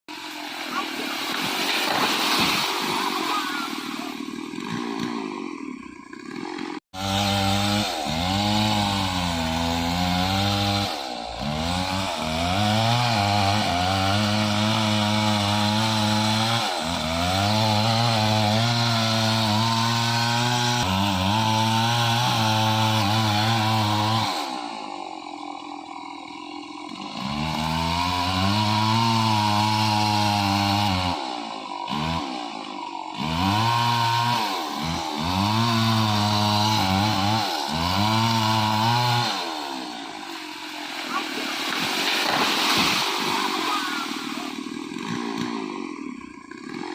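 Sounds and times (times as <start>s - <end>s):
chainsaw cutting at high revs: 0.1s - 46.9s.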